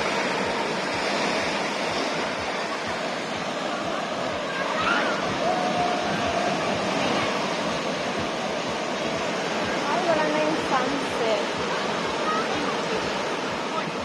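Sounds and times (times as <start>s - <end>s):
waves breaking on shore: 0.0s - 14.0s.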